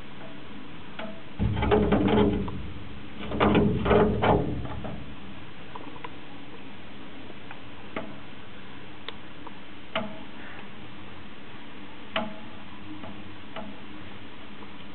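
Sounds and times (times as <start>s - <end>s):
background hiss: 0.0s - 14.9s.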